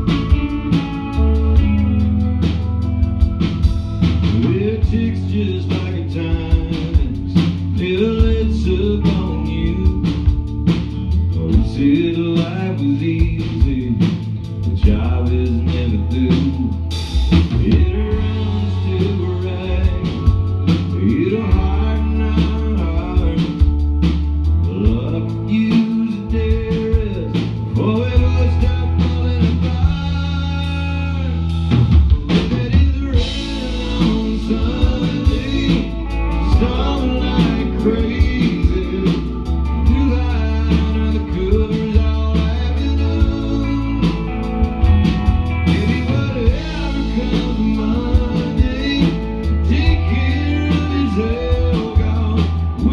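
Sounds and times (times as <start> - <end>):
country rock band playing: 0.0 - 52.9
man singing: 0.0 - 52.9.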